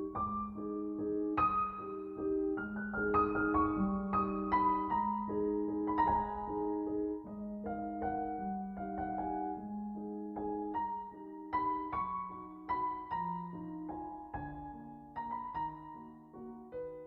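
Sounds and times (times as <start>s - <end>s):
slow dark solo piano: 0.0s - 17.0s.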